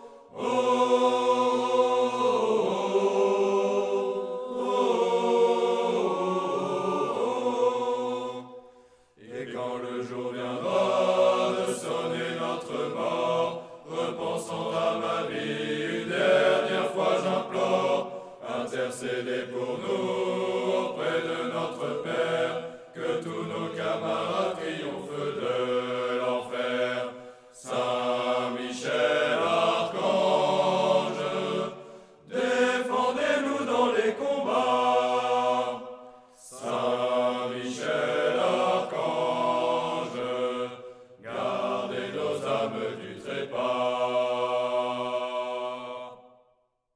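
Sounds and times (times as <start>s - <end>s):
choir chanting: 0.0s - 46.7s.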